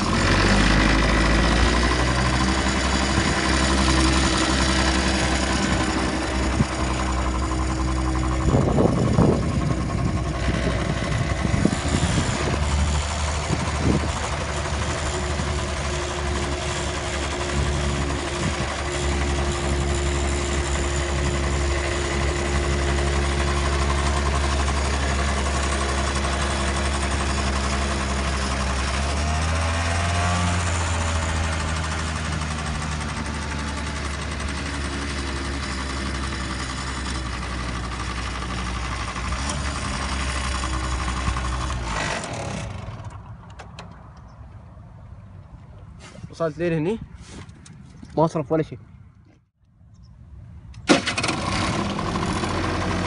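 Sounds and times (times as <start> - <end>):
small petrol engine droning: 0.0 - 46.3, 49.1 - 53.0.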